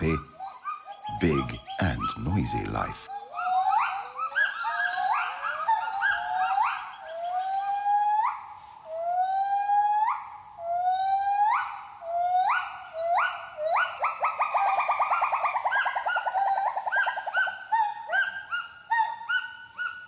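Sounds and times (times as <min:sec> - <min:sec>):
gibbon whooping calls: 0:03.1 - 0:20.0.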